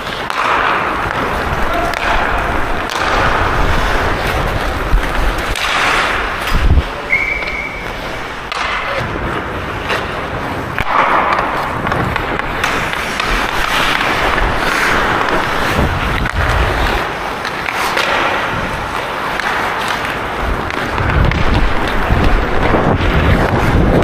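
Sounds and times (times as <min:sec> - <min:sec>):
skate blades scraping ice: 0:00.0 - 0:24.0.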